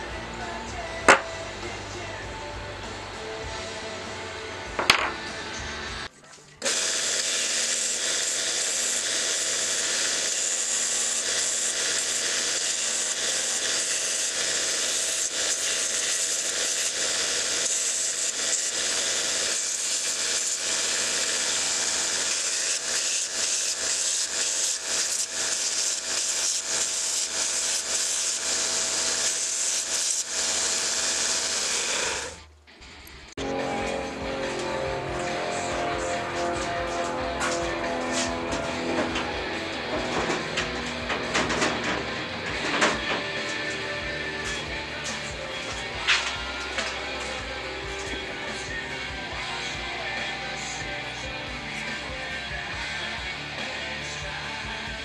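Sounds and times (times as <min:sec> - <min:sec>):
bandsaw cutting plastic: 0:06.6 - 0:50.8.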